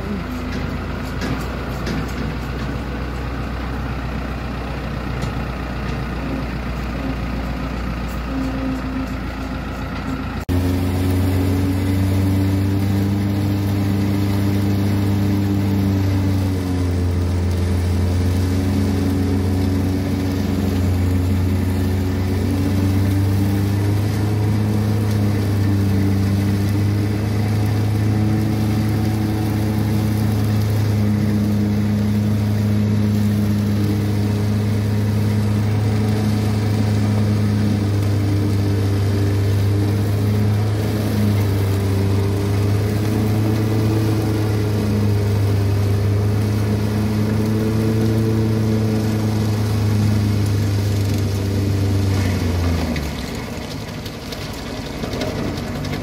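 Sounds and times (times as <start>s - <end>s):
tractor and forage harvester droning: 0.0s - 56.0s.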